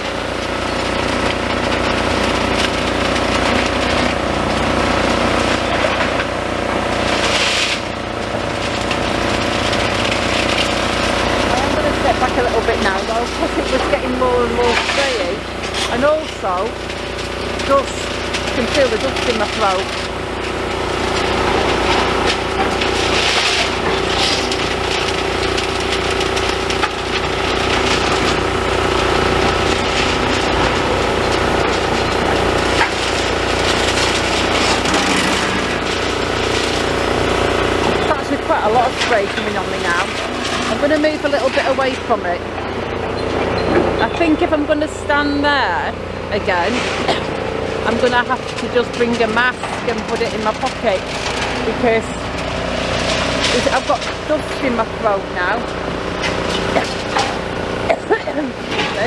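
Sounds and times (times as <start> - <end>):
excavator diesel engine running: 0.0 - 59.0
scraping and grinding of concrete: 0.0 - 59.0
steady mechanical hum: 0.0 - 59.0.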